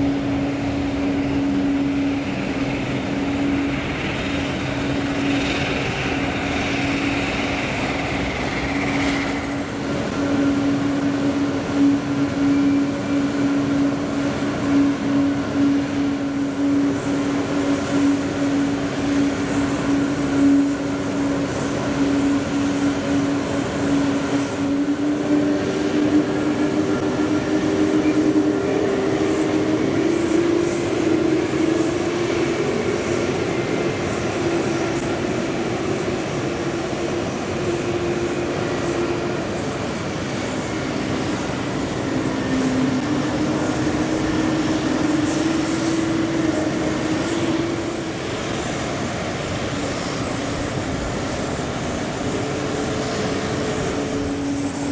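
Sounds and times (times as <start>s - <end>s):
faint high whine: 0.0s - 54.9s
jet engines droning: 0.0s - 54.9s.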